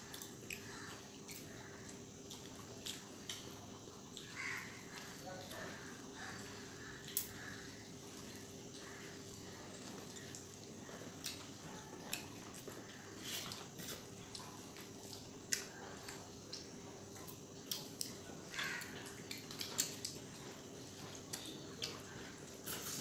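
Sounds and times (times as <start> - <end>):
chewing and lip smacks: 0.0 - 23.0
faint steady hum: 0.0 - 23.0.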